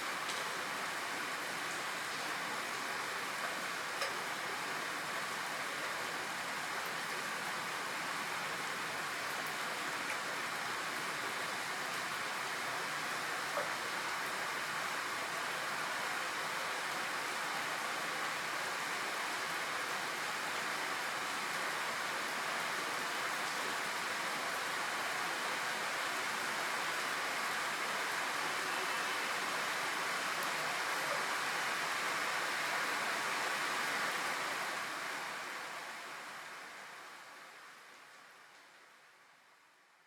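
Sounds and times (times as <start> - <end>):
hiss of falling rain: 0.0 - 40.0.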